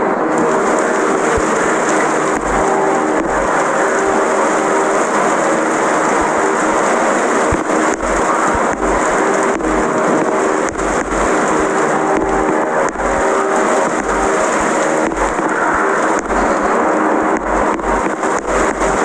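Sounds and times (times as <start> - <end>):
electric fan air rush: 0.0 - 19.0
faint motor hum: 0.0 - 19.0.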